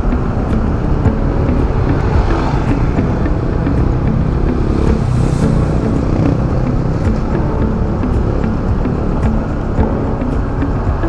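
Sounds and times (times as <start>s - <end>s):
motorcycle engine running: 0.0s - 11.0s
road and traffic noise: 0.0s - 11.0s.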